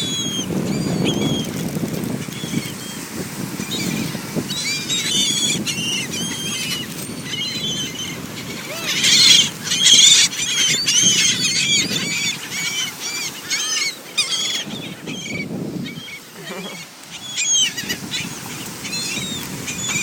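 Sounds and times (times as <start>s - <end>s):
seagulls calling: 0.0s - 20.0s.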